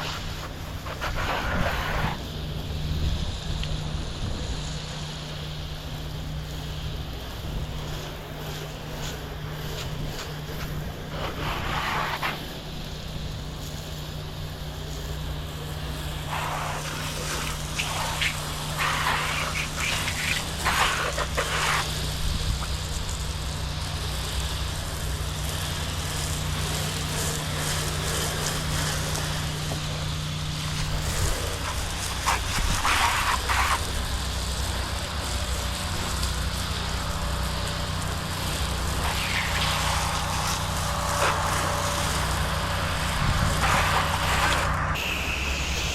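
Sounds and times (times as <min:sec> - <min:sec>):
water spray hissing: 0:00.0 - 0:03.1, 0:06.4 - 0:45.9
pressure washer engine hum: 0:00.0 - 0:45.9.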